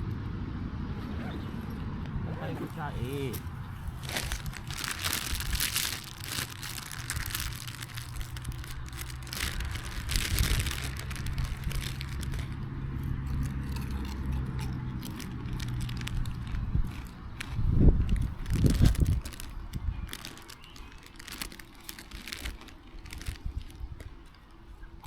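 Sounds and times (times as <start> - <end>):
plastic wrapper crinkling: 2.6 - 24.2.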